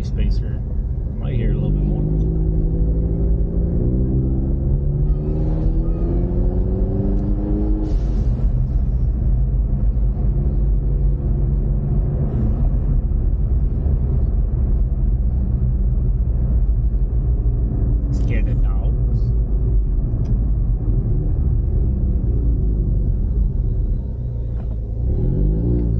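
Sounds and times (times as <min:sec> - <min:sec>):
car engine revving: 0:00.0 - 0:25.9
road rumble: 0:00.0 - 0:25.9.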